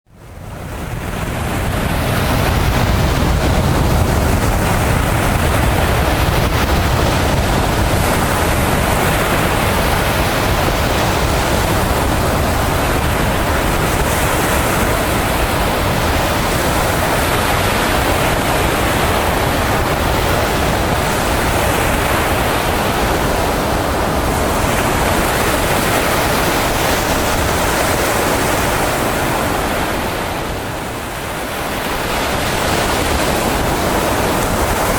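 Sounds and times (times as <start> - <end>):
wind: 0.0 - 34.9
sea surf washing on shore: 0.1 - 34.9.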